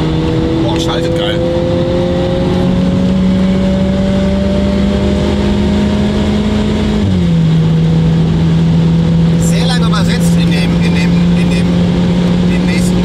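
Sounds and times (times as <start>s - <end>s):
turbocharged car engine accelerating: 0.0s - 13.0s.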